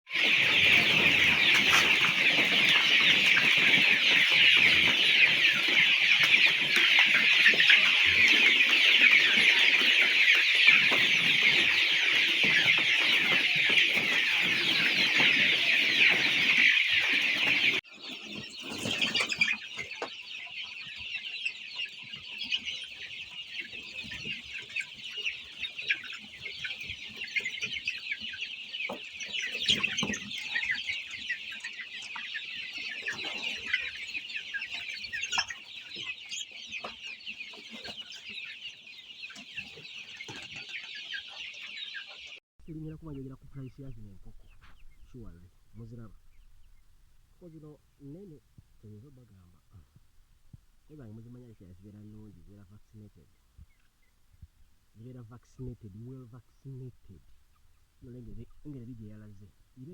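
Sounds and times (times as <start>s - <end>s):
chickens peeping and clucking: 0.1s - 59.9s.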